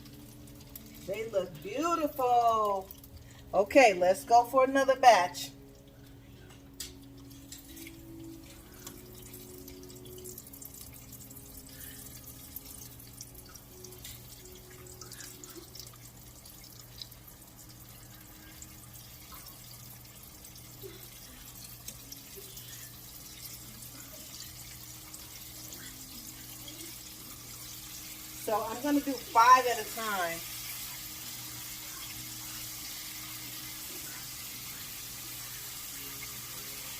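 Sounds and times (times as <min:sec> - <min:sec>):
oil frying with crackles and pops: 0:00.0 - 0:36.9.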